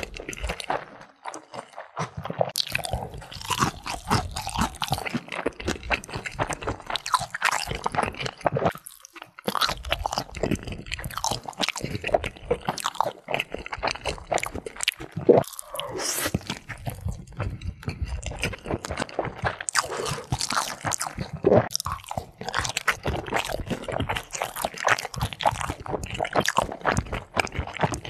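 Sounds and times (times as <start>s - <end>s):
close chewing and crunching: 0.0s - 28.0s.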